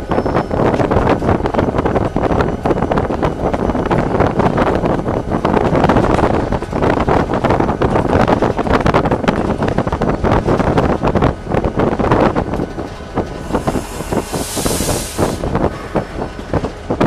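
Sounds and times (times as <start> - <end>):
diesel locomotive engine running: 0.0 - 17.0
wheels on rails: 0.0 - 17.0
wind buffeting microphone: 0.0 - 17.0.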